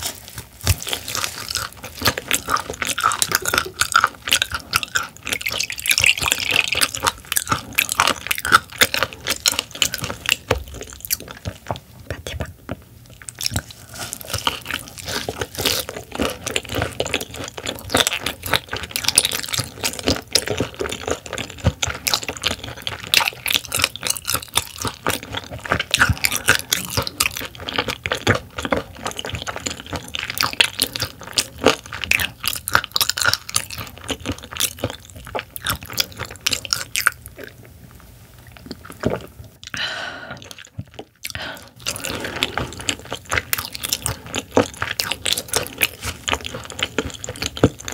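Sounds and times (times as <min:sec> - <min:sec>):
wet chewing crunches: 0:00.0 - 0:37.8, 0:40.4 - 0:47.9.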